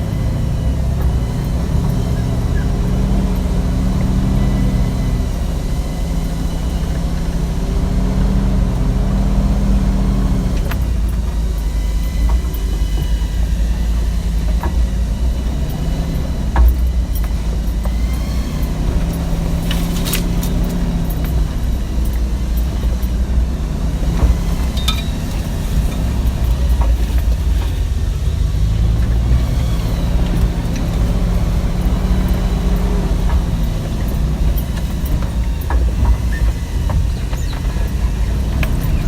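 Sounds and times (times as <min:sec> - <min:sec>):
car engine running while driving: 0:00.0 - 0:39.0.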